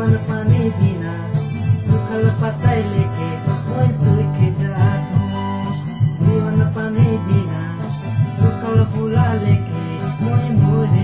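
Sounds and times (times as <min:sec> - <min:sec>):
electric guitar: 0:00.0 - 0:11.0
high ticking beat: 0:00.0 - 0:11.0
man singing: 0:00.0 - 0:11.0.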